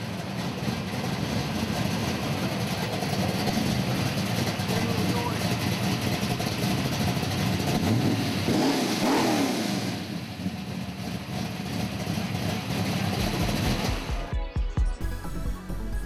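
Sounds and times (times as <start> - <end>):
car engine revving: 0.1 - 14.3.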